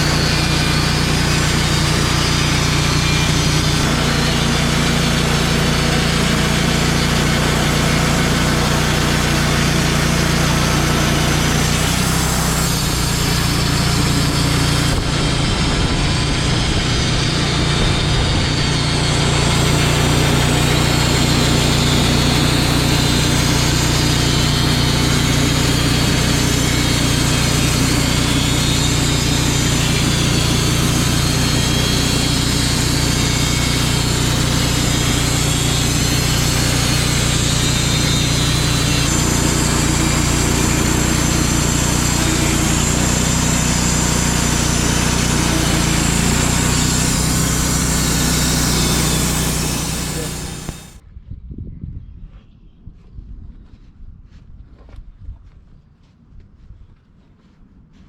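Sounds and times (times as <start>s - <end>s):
band sawmill cutting log: 0.0s - 51.0s.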